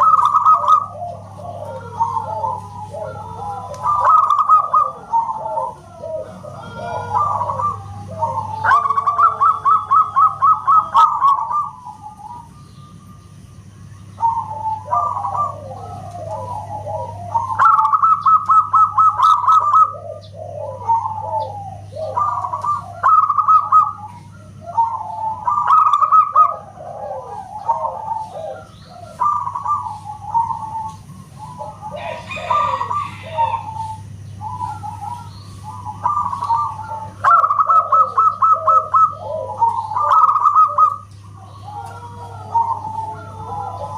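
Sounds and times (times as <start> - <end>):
dove cooing: 0.0 - 43.9
steady low hum: 0.0 - 43.9.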